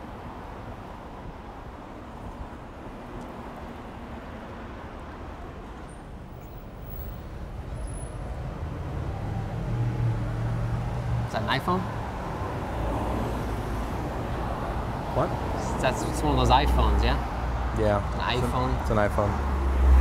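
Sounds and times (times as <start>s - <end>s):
passing vehicles: 0.0s - 20.0s.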